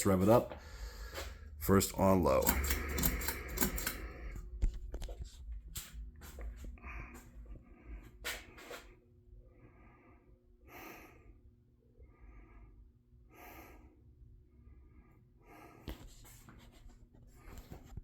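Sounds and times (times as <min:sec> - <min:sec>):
ceiling fan motor hum: 0:00.0 - 0:18.0
soft breathing: 0:00.5 - 0:01.7, 0:02.5 - 0:16.5.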